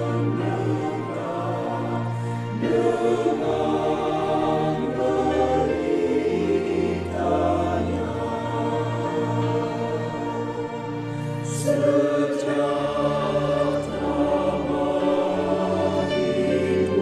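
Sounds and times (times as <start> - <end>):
choir singing a carol: 0.0 - 17.0.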